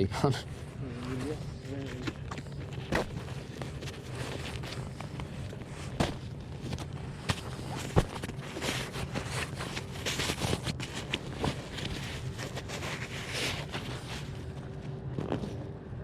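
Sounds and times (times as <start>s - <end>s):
camping gear rustling and scraping: 0.0s - 16.0s.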